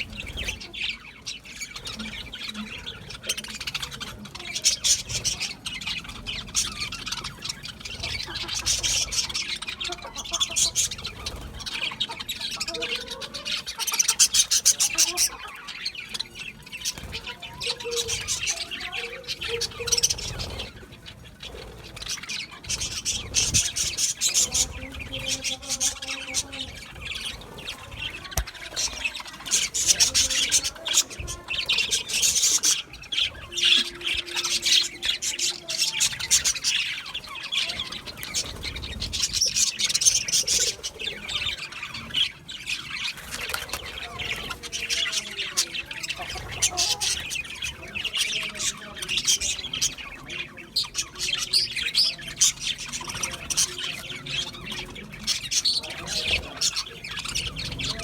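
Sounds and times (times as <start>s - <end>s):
budgerigars chirping and squawking: 0.0s - 58.0s.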